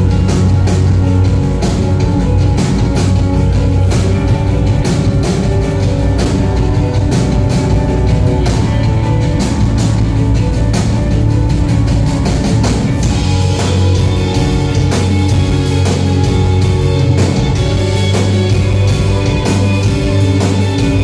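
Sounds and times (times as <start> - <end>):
drum kit beat: 0.0 - 21.0
electric guitars: 0.0 - 21.0
keyboard chords: 0.0 - 21.0.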